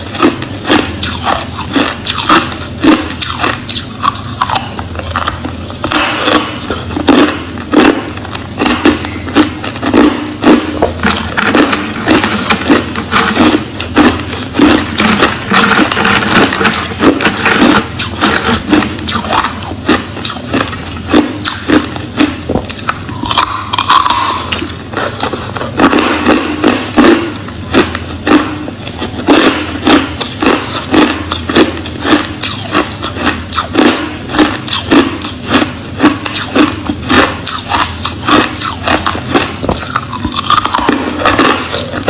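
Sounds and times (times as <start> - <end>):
crushed ice being chewed: 0.0 - 42.0.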